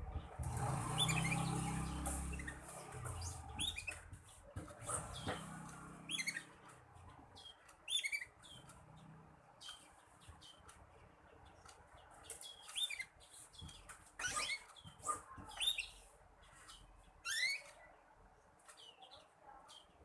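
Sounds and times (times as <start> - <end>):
canary chirping: 0.0 - 18.0.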